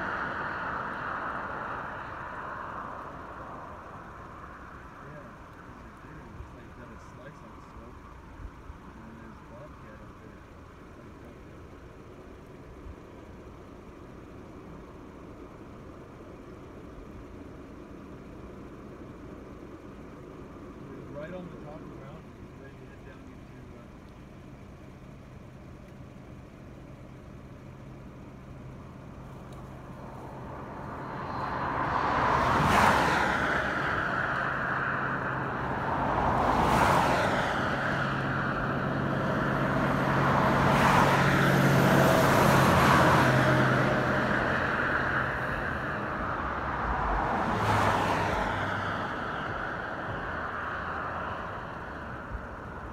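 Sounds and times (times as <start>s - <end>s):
low engine hum: 0.0s - 52.9s
vehicles passing on highway: 0.0s - 52.9s.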